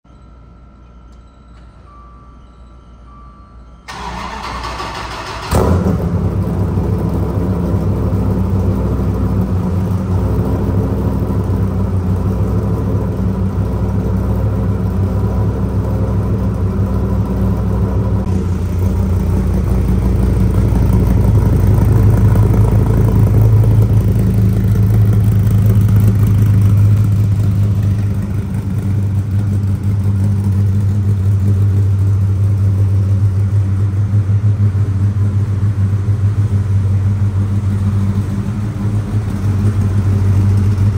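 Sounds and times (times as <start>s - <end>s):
car engine idling: 3.9s - 40.9s.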